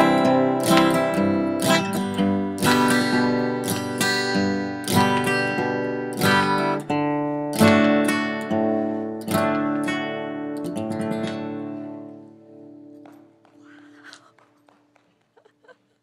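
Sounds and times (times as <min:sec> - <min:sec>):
acoustic guitar strumming chords: 0:00.0 - 0:13.3.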